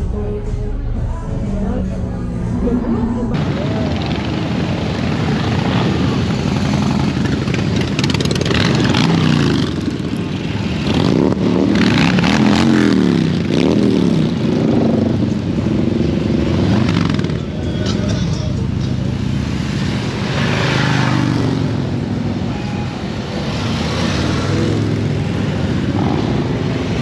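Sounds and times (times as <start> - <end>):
motorcycle engine revving: 2.0 - 27.0.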